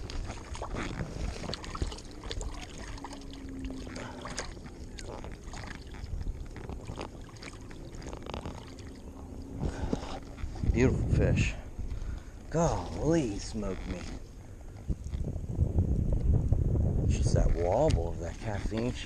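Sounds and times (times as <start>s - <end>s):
river water sloshing and trickling: 0.0s - 15.3s, 17.2s - 19.0s
faint steady hum: 0.0s - 19.0s.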